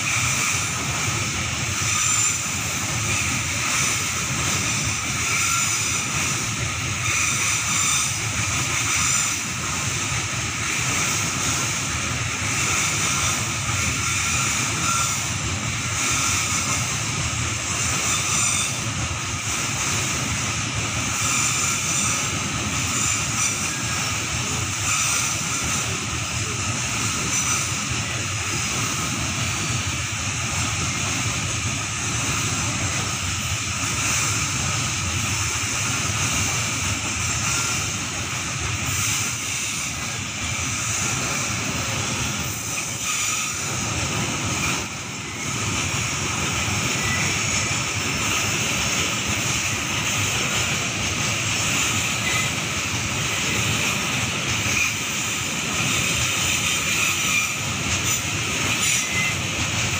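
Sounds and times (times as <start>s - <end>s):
train wheels rumbling and clattering: 0.0s - 59.9s.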